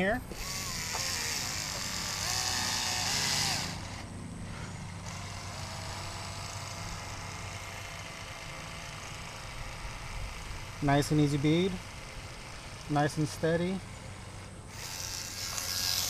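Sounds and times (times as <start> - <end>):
caulking gun motor whining: 0.0 - 16.0.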